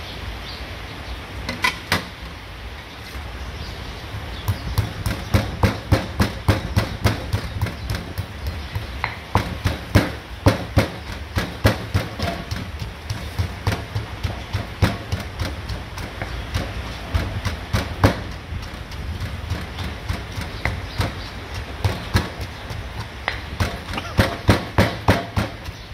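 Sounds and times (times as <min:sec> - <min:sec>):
stone pestle knocking in mortar: 0:04.4 - 0:25.9.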